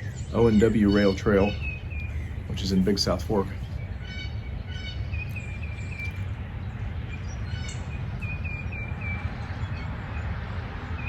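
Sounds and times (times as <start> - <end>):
bird chirping: 0.0 - 11.0
steady low rumble: 0.0 - 11.0.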